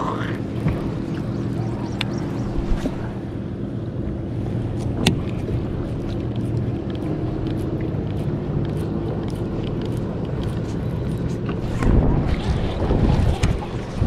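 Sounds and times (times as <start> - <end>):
boat motor running: 0.0 - 14.0
wind buffeting microphone: 0.0 - 14.0.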